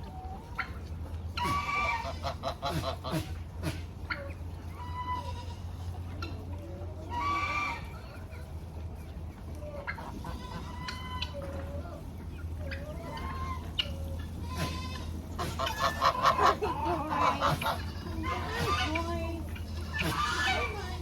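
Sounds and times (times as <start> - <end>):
poultry squawking: 0.0 - 21.0.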